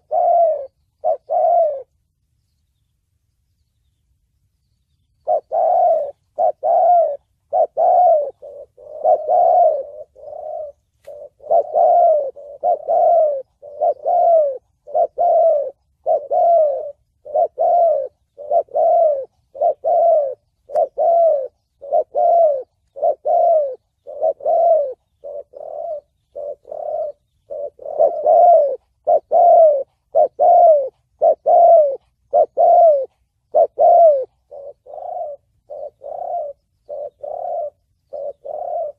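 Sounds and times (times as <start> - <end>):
dove cooing: 0.0 - 2.1, 5.2 - 38.9.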